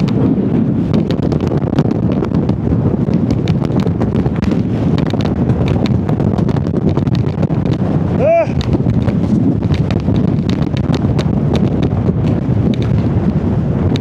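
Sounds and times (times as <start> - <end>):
gusting wind buffeting microphone: 0.0 - 14.0
sharp irregular ticks: 0.9 - 7.9, 8.5 - 14.0.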